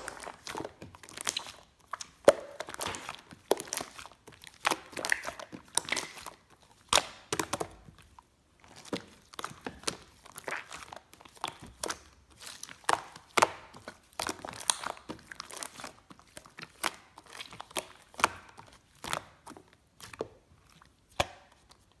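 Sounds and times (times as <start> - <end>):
slime squished by hand: 0.0 - 22.0.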